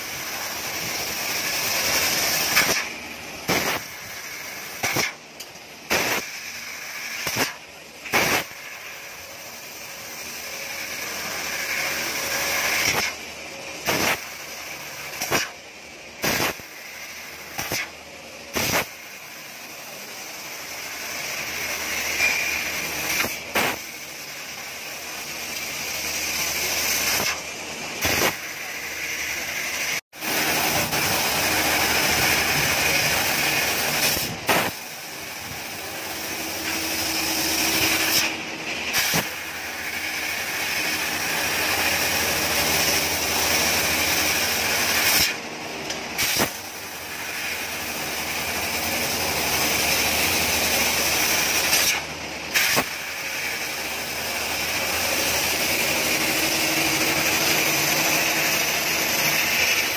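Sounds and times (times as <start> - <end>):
hiss of cutting gas: 0.0 - 5.2, 5.8 - 15.6, 16.2 - 27.4, 28.0 - 45.4, 46.1 - 59.9.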